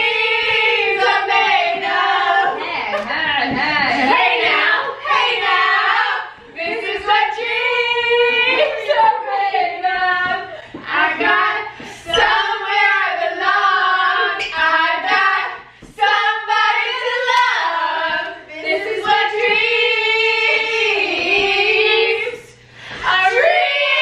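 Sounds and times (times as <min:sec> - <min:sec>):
women singing unaccompanied: 0:00.0 - 0:24.0.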